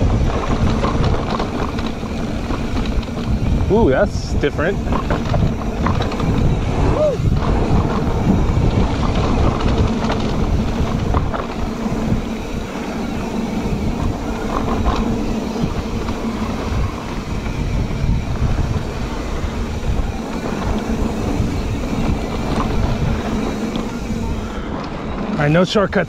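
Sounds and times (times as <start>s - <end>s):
bike knocks and rattles: 0.0s - 26.0s
tyres rumbling over dirt: 0.0s - 26.0s
wind buffeting microphone: 0.0s - 26.0s
drive motor humming: 0.2s - 25.9s.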